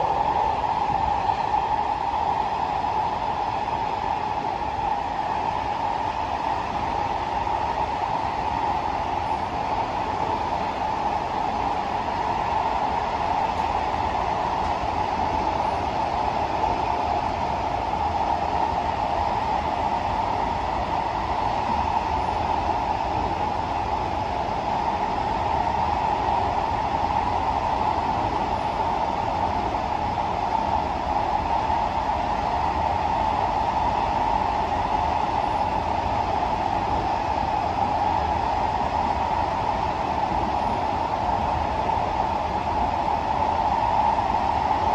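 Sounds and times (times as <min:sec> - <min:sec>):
train running hum: 0:00.0 - 0:44.9
train wheels rushing on rail: 0:00.0 - 0:44.9.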